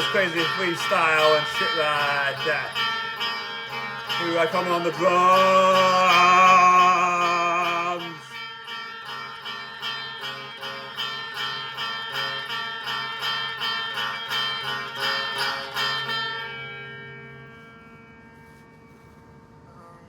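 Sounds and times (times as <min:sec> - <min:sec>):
plucked string repeated notes: 0:00.0 - 0:18.1.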